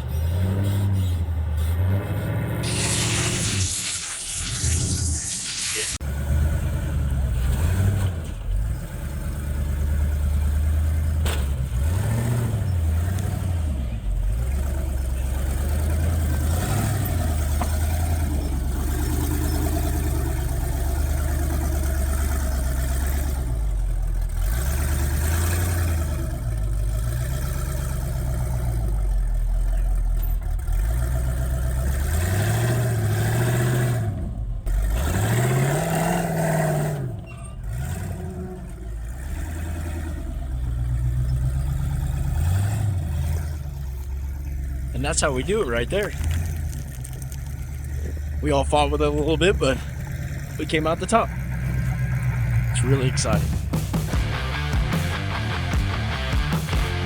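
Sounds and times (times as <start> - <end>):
engine revving under load: 0.0 - 57.0.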